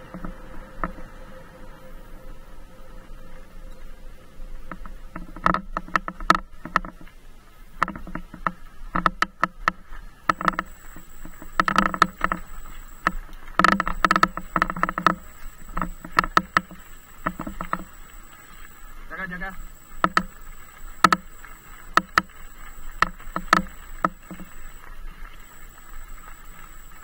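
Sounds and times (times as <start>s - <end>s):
bicycle rattling over rough ground: 0.0s - 2.1s, 2.9s - 27.0s.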